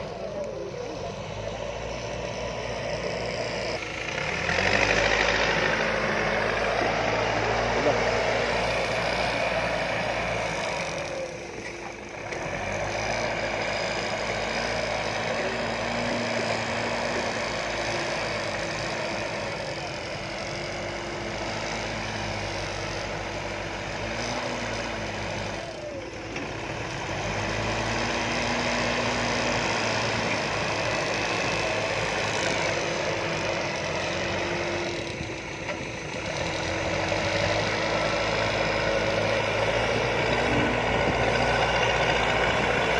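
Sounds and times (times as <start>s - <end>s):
diesel engines under load: 0.0s - 42.9s.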